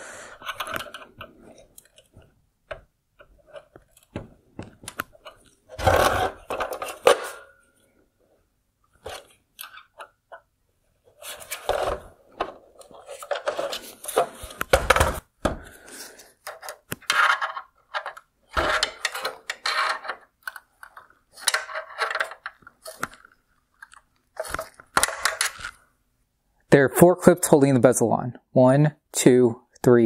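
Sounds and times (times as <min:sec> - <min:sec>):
plastic parts clicking and scraping: 0:00.3 - 0:07.9, 0:08.9 - 0:25.9.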